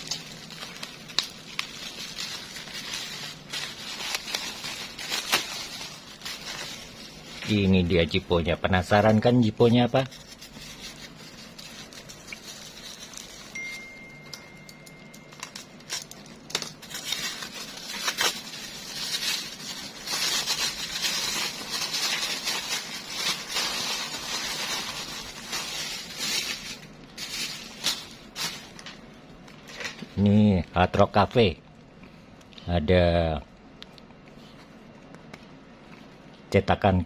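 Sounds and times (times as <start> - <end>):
plastic packaging crinkling: 0.0 - 30.4.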